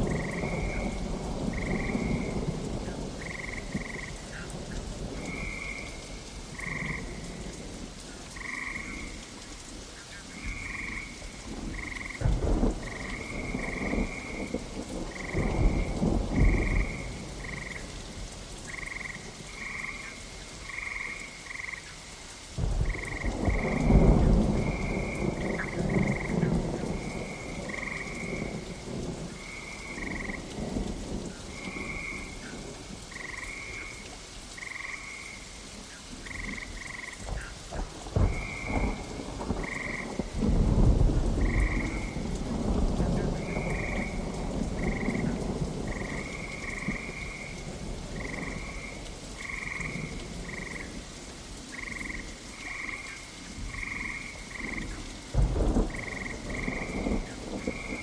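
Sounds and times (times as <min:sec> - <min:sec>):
thunder rumbling: 0:00.0 - 0:09.2, 0:10.4 - 0:20.0, 0:22.6 - 0:34.0, 0:36.2 - 0:51.1, 0:51.7 - 0:58.0
frogs croaking: 0:00.0 - 0:58.0
steady rain: 0:00.0 - 0:58.0.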